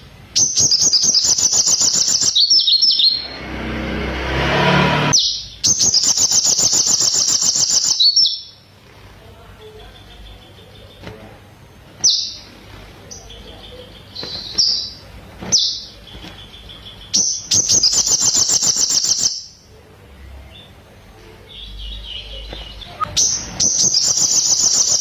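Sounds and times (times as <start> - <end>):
bird singing chirps and trills: 0.0 - 3.6, 5.0 - 19.7, 21.4 - 25.0.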